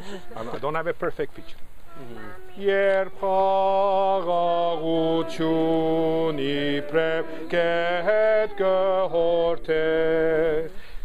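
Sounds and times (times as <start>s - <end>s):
man humming a hymn melody: 1.4s - 10.8s.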